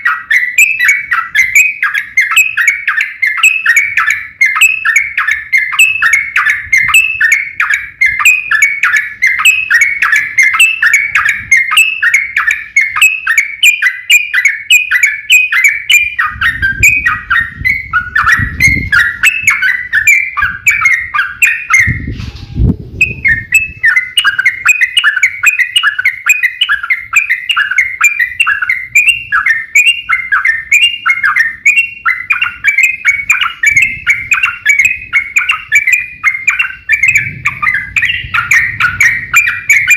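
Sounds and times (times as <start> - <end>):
bulbul chirping song: 0.0 - 22.2, 23.0 - 39.9.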